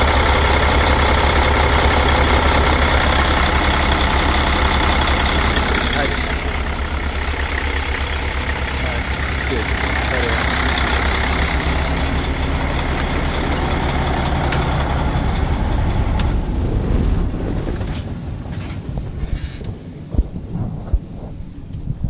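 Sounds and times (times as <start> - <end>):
diesel engine idling: 0.0 - 20.1.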